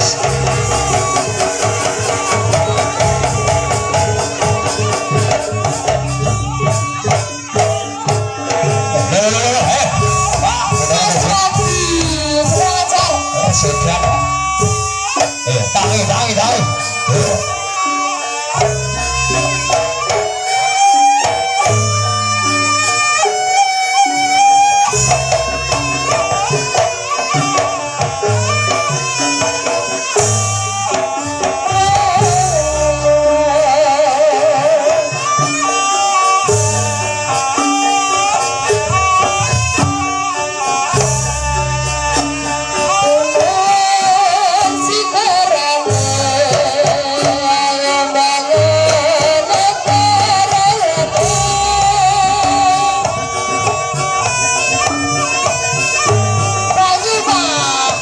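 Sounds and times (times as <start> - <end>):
gamelan music: 0.0 - 58.0
wavering high melody: 0.0 - 58.0.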